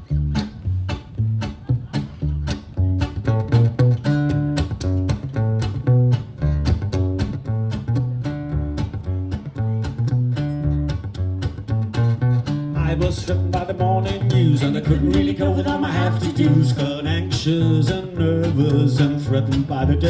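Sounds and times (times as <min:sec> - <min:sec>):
baritone guitar riff: 0:00.0 - 0:20.0.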